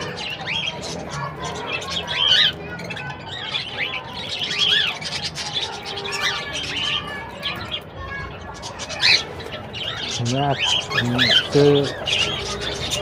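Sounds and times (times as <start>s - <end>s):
parakeets chirping: 0.0s - 13.0s.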